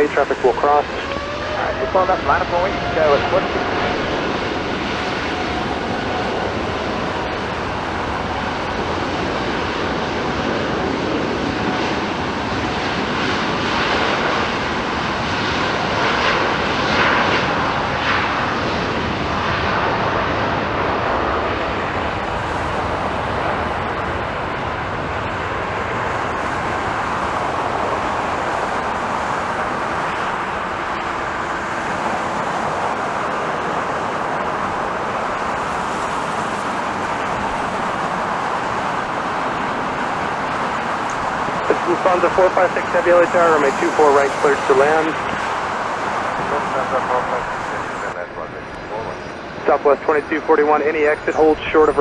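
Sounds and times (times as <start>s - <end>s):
jet engines at takeoff power: 0.0s - 52.0s.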